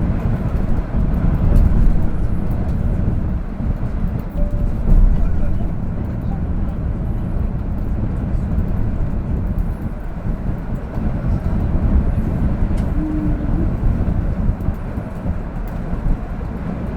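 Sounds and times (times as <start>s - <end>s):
strong wind noise: 0.0s - 16.9s
vehicle road noise: 0.0s - 16.9s.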